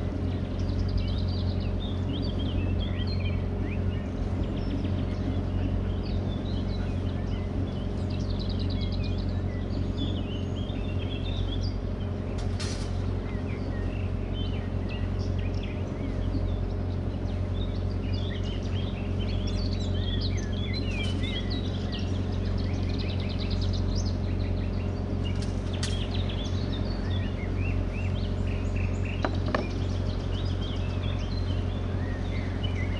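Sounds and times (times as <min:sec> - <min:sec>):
boat engine humming: 0:00.0 - 0:32.9
songbirds chirping: 0:00.0 - 0:32.9.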